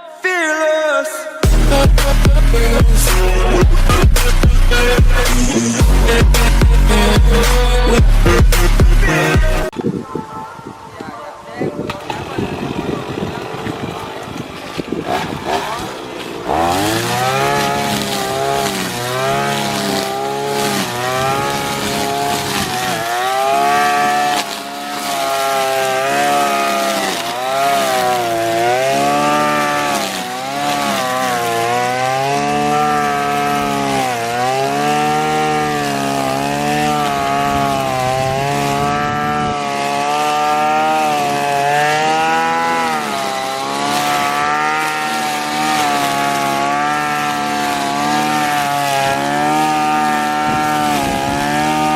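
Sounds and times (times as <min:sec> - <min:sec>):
brush cutter engine running: 0:01.4 - 0:09.7, 0:11.8 - 0:51.9.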